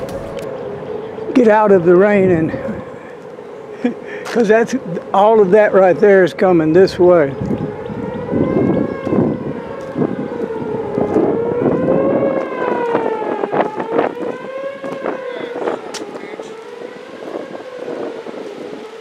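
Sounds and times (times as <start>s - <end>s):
warning siren wailing: 0.0s - 19.0s
wind buffeting microphone: 0.0s - 19.0s.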